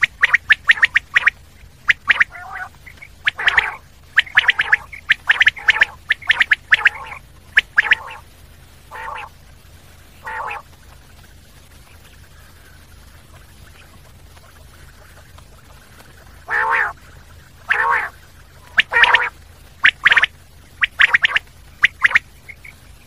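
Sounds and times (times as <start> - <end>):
quail calling: 0.0 - 8.3, 8.9 - 9.4, 10.1 - 11.2, 11.8 - 23.0
faint hiss: 0.0 - 23.0.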